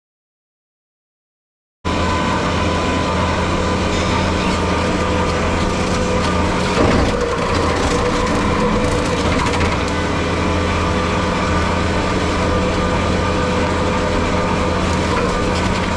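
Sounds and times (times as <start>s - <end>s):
skid steer brush cutter running: 1.9s - 15.9s.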